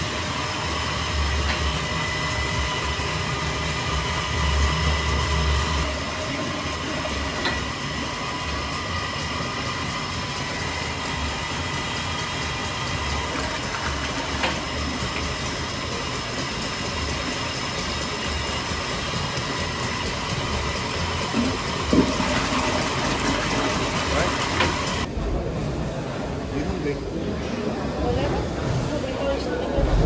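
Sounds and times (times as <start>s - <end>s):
steam pumping engine running: 0.0s - 30.0s.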